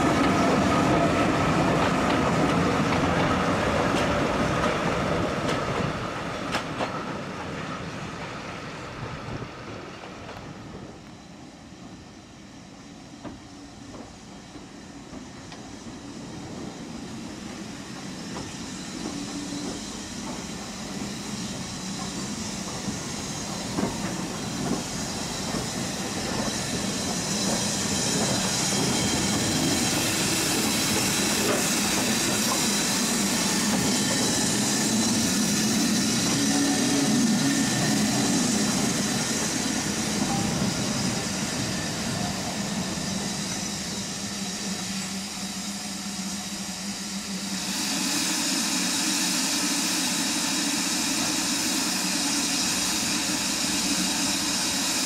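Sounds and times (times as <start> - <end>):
steam locomotive hissing steam: 0.0 - 55.0.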